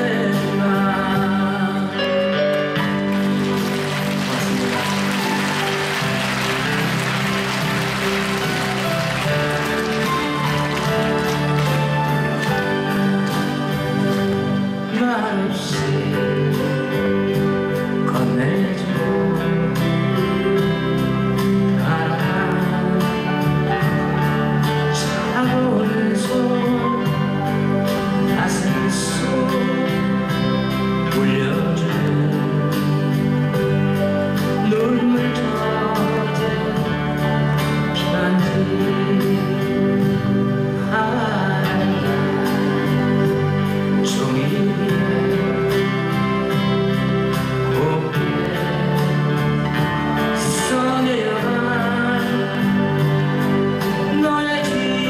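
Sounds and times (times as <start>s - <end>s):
man singing: 0.0s - 5.4s, 9.7s - 55.0s.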